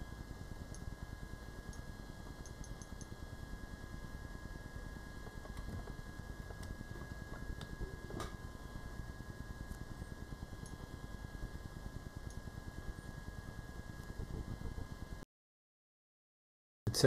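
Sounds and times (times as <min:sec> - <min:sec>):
thin steady whine: 0:00.0 - 0:15.2.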